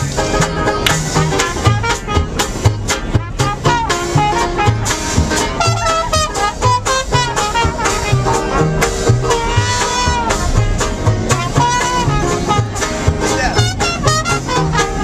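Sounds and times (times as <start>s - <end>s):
horn holding wavering note: 0.0s - 15.0s
swing jazz with brass horns: 0.0s - 15.0s.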